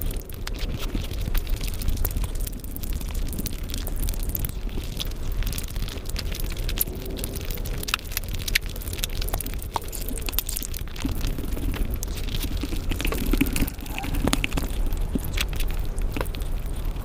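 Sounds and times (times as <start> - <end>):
person chewing rice: 3.0 - 17.0.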